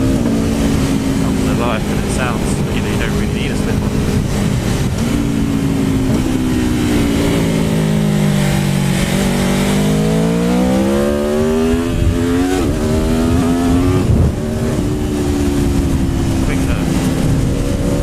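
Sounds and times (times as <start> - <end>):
motorcycle engine accelerating: 0.0 - 18.0
wind rush: 0.0 - 18.0.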